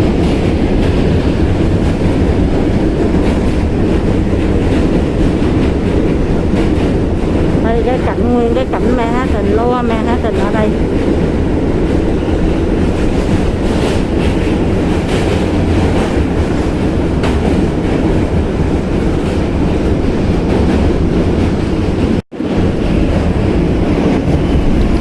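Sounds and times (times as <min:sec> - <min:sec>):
clickety-clack knocks: 0:00.0 - 0:25.0
train wheels rumbling on rail: 0:00.0 - 0:25.0.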